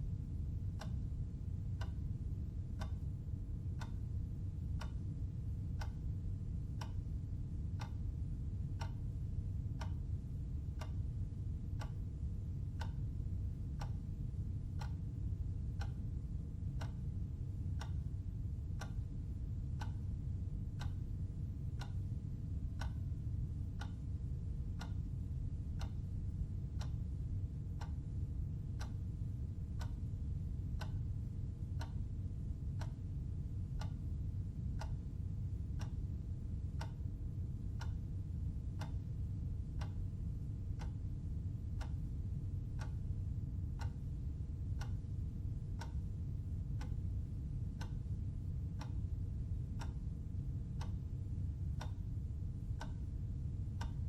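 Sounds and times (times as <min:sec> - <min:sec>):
low hum: 0:00.0 - 0:54.0
clock ticking: 0:00.4 - 0:25.1, 0:25.7 - 0:43.2, 0:43.8 - 0:50.2, 0:50.8 - 0:51.0, 0:51.8 - 0:52.1, 0:52.8 - 0:53.1, 0:53.7 - 0:54.0.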